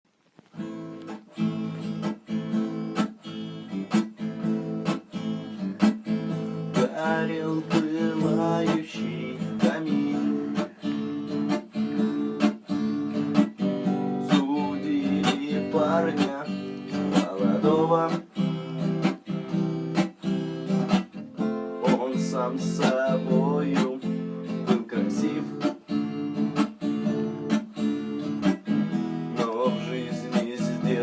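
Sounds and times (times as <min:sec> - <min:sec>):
acoustic guitar strumming: 0:00.4 - 0:31.0.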